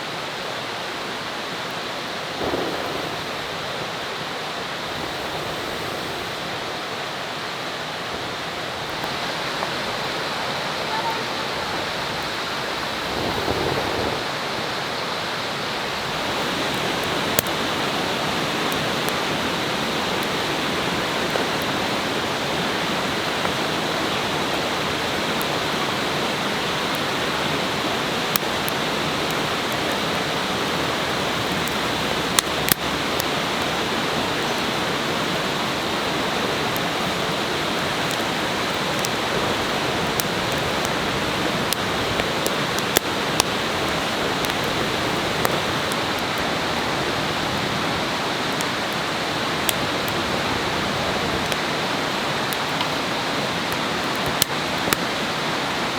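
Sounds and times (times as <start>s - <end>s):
flowing river rushing: 0.0s - 55.9s.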